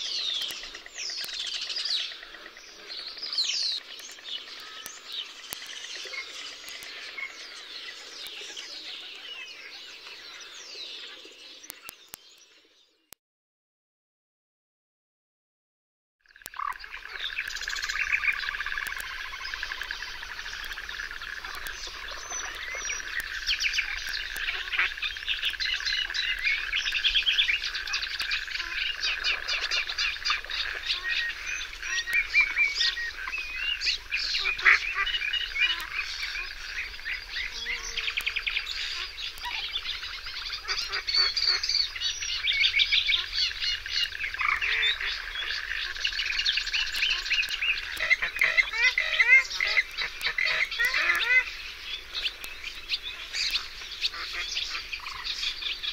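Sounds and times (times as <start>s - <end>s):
birds chirping and trilling: 0.0s - 13.2s, 16.3s - 55.9s.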